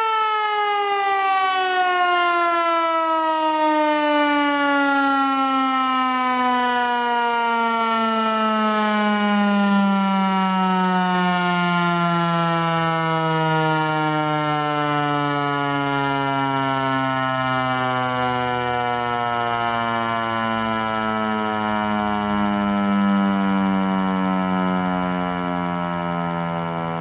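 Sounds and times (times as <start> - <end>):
tornado siren winding down: 0.0 - 27.0.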